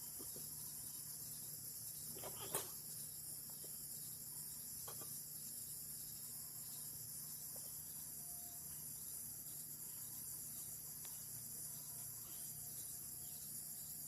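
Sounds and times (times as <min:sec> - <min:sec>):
crickets trilling: 0:00.0 - 0:14.0
faint low hum: 0:00.0 - 0:14.0.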